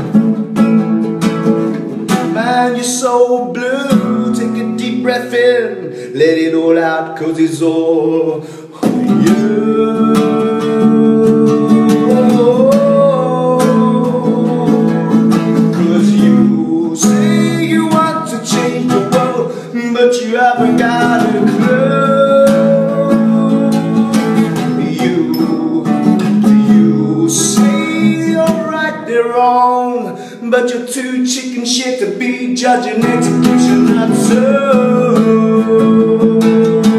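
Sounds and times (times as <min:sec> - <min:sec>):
nylon-string guitar strumming: 0:00.0 - 0:36.9
man singing: 0:02.1 - 0:36.9.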